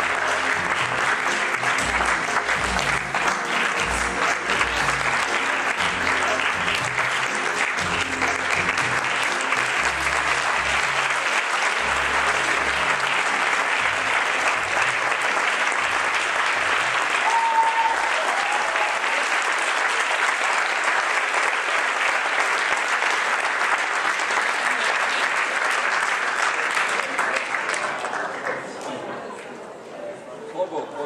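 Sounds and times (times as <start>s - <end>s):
audience applauding: 0.0s - 29.6s.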